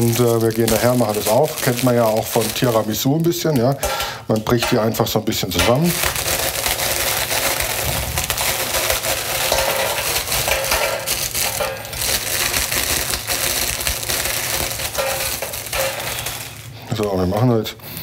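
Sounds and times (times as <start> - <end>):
biscuits crunching: 0.0 - 17.0
plastic wrapper crinkling: 0.0 - 17.6.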